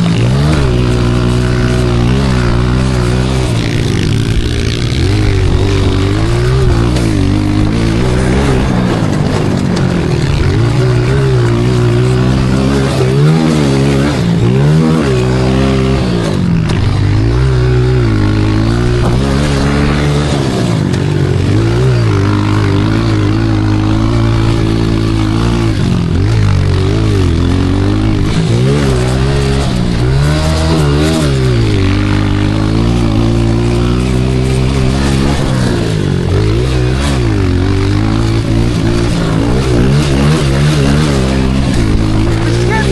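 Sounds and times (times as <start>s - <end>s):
small motorbike engine revving: 0.0s - 42.9s.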